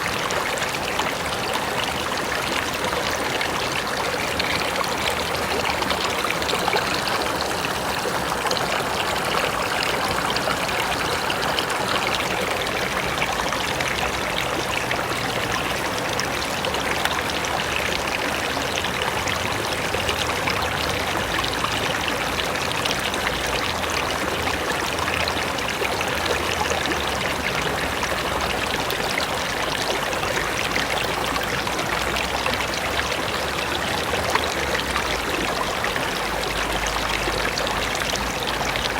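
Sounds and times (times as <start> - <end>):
river flowing over rocks: 0.0 - 38.9
water splashing and trickling: 0.0 - 38.9.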